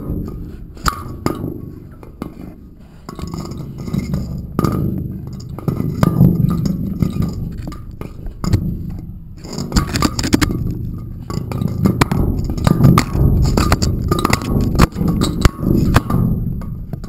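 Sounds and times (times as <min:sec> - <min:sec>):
irregular clinks and knocks: 0:00.0 - 0:17.0
low rumbling handling noise: 0:00.0 - 0:17.0.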